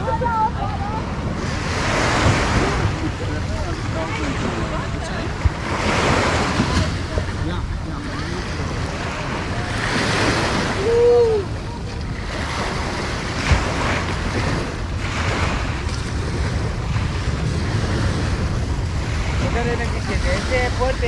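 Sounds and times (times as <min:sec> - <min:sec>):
small waves washing on sand: 0:00.0 - 0:21.0
wind rumbling on microphone: 0:00.0 - 0:21.0.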